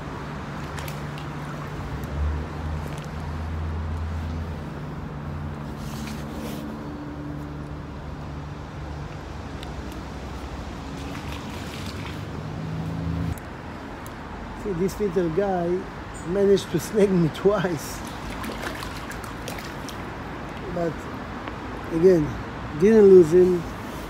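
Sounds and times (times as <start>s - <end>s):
traffic engine hum: 0.0s - 24.0s.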